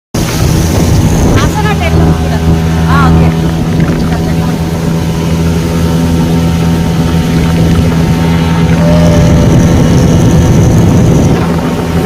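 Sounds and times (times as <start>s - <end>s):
speedboat engine running: 0.2s - 12.0s.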